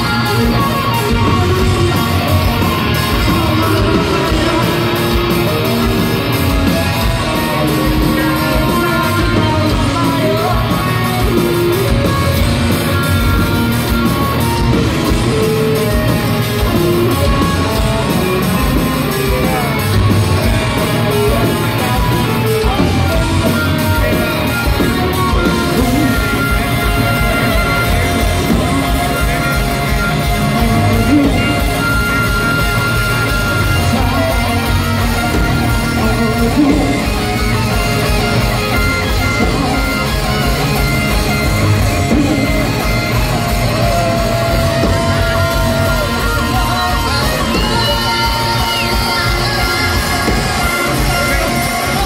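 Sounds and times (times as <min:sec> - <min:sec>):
bass guitar: 0:00.0 - 0:52.0
distorted electric guitars: 0:00.0 - 0:52.0
drum kit: 0:00.0 - 0:52.0
person singing: 0:00.0 - 0:52.0.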